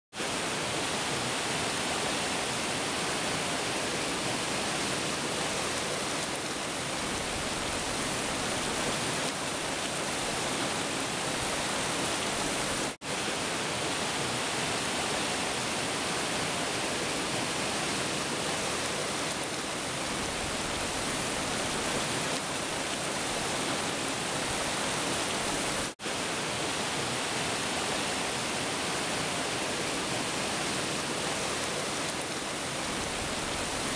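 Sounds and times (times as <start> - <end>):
stream rushing over rocks: 0.2 - 33.9.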